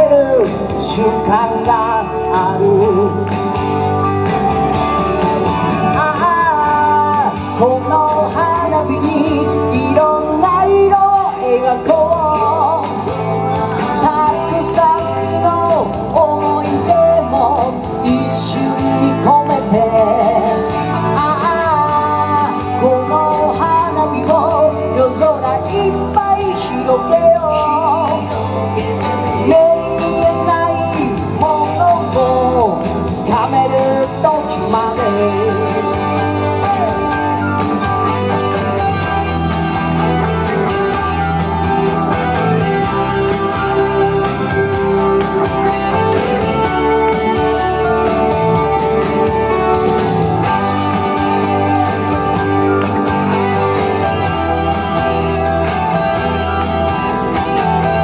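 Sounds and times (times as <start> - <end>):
electric guitar: 0.0 - 58.0
upbeat song over sound system: 0.0 - 58.0.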